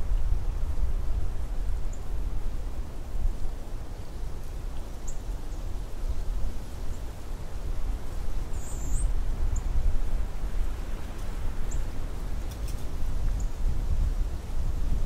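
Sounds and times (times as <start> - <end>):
wind blowing in gusts: 0.0 - 15.0.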